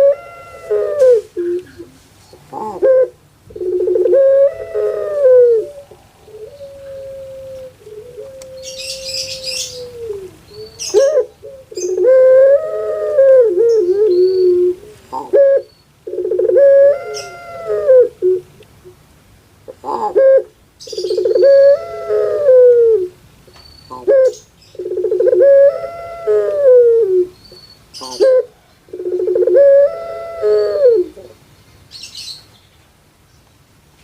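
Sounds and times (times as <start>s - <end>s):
dove cooing: 0.0s - 19.0s, 19.7s - 23.2s, 23.9s - 27.4s, 28.0s - 31.4s.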